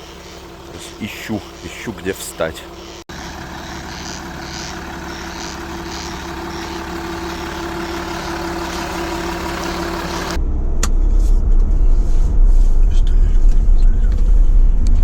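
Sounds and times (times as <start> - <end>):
vehicle engine and road hum: 0.0 - 15.0.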